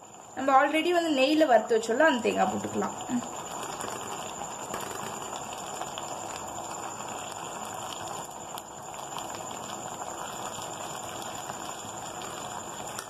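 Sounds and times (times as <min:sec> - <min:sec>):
thick filling bubbling in a pan: 0:00.0 - 0:13.0.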